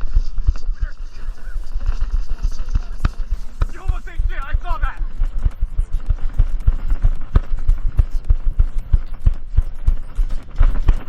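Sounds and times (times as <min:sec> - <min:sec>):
running footsteps thumping: 0:01.8 - 0:11.0.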